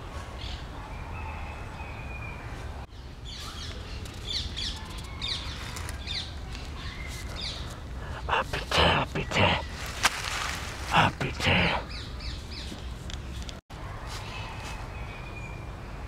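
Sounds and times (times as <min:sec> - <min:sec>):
small birds chirping: 0:00.4 - 0:13.6.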